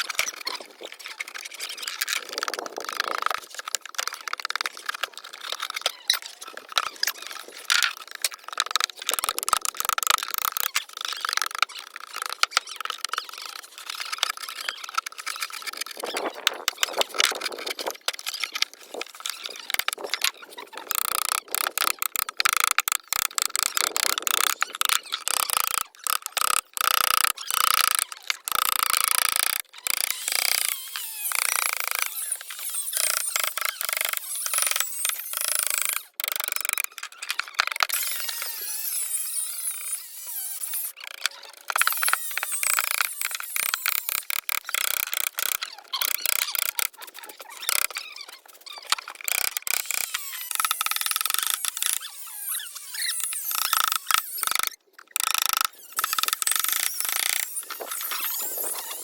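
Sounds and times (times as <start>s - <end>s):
carving tool rasping wood: 4.5s - 48.0s, 48.8s - 59.0s.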